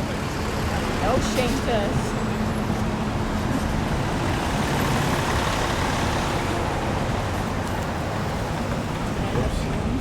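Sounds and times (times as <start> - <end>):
heavy vehicles passing: 0.0 - 10.0.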